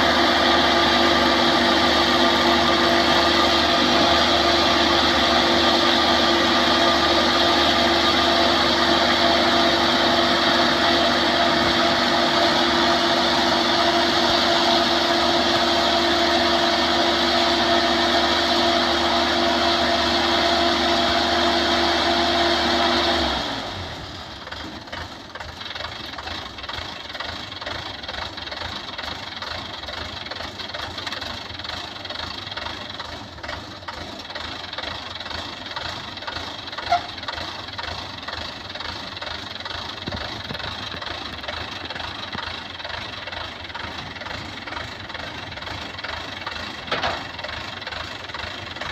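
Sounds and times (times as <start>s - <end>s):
harvester engine running: 0.0s - 48.9s.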